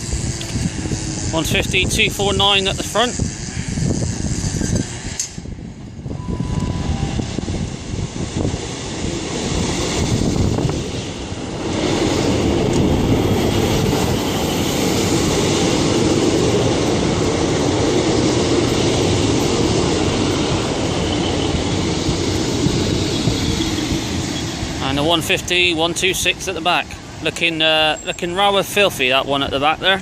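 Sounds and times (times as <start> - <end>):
diesel train rumbling: 0.0 - 30.0.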